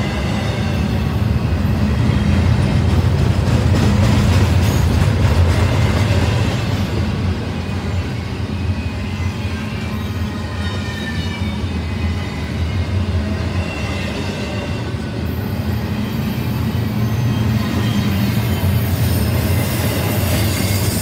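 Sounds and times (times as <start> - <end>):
train cars rumbling on rails: 0.0 - 21.0.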